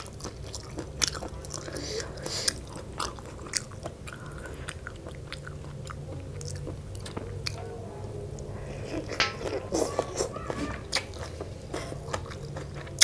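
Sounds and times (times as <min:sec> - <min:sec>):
chewing and biting food: 0:00.0 - 0:07.6, 0:08.8 - 0:13.0.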